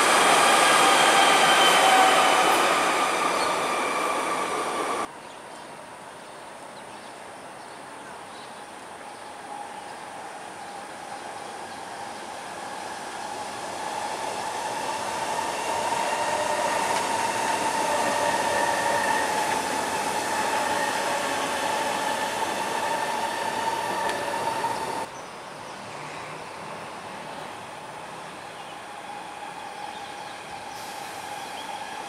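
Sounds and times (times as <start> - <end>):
electric metro train passing: 0.0 - 5.1, 8.1 - 32.0.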